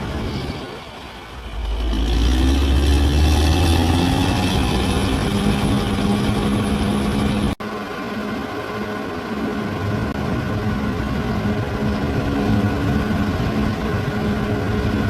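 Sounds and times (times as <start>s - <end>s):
bulldozer diesel engine droning: 0.0s - 15.0s.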